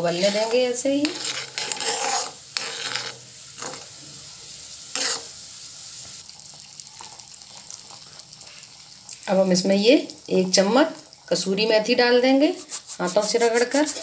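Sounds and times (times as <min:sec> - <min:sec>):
gravy simmering and sizzling: 0:00.0 - 0:14.0.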